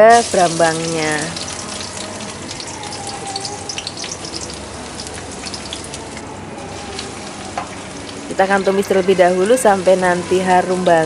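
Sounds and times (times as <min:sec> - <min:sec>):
shallots and garlic sizzling in oil: 0:00.0 - 0:11.0.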